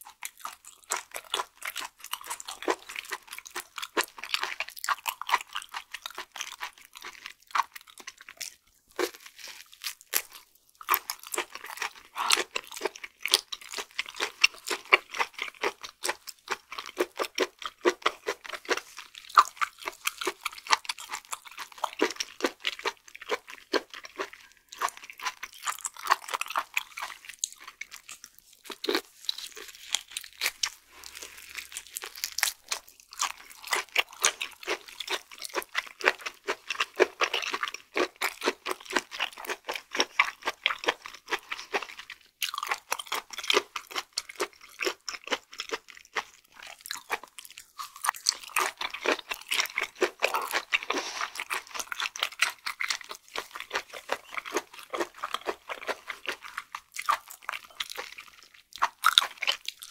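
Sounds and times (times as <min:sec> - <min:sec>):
close chewing with mouth clicks: 0:00.0 - 0:59.9.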